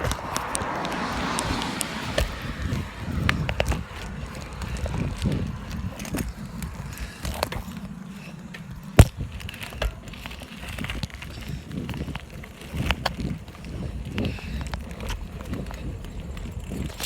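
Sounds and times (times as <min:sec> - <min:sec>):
bicycle rolling and rattling: 0:00.0 - 0:17.0
wind rumble: 0:00.0 - 0:17.0.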